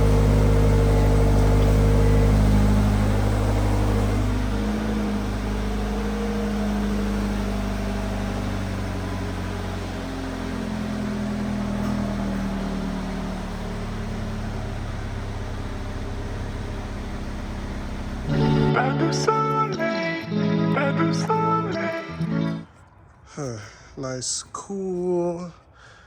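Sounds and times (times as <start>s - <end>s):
car engine idling: 0.0s - 22.6s.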